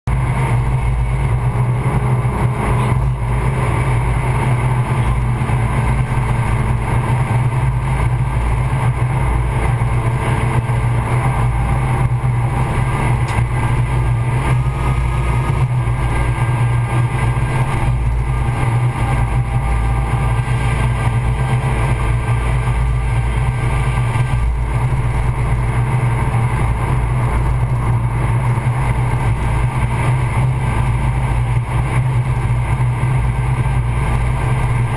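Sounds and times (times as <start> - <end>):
loud engine drone: 0.0 - 34.9
road noise: 0.0 - 34.9
wind noise: 0.1 - 34.9.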